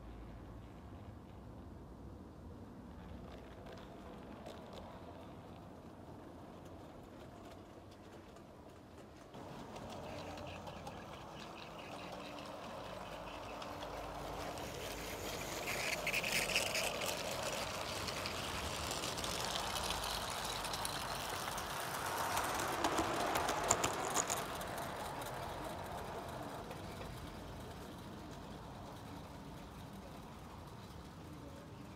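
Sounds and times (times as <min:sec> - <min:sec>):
model train wheels rolling: 0:02.9 - 0:31.9.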